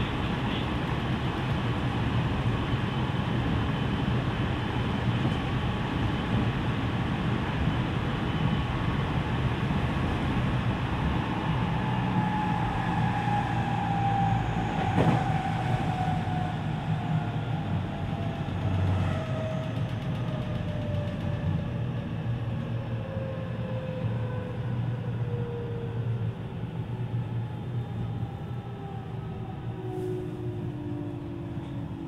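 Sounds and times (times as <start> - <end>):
wheels rumbling on rail: 0.0 - 32.0.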